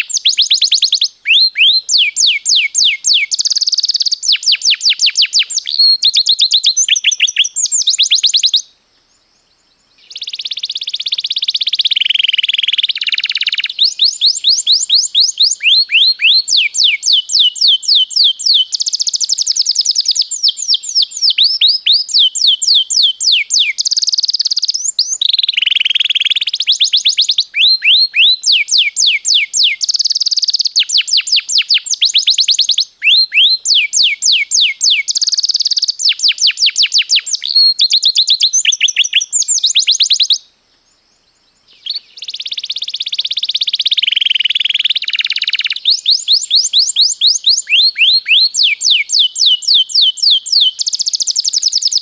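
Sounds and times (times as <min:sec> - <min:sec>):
canary singing in fast trills: 0:00.0 - 0:08.6, 0:10.0 - 0:40.4, 0:41.8 - 0:52.0.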